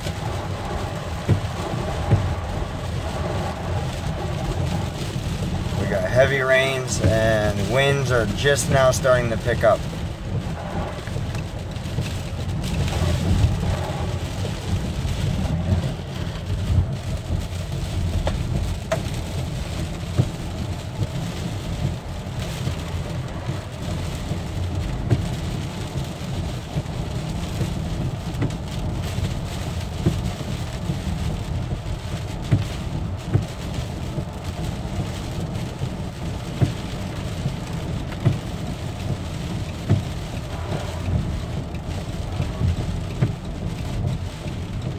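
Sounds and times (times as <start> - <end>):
heavy rain beating on a car: 0.0 - 44.9
road and wind noise rumble: 0.0 - 44.9.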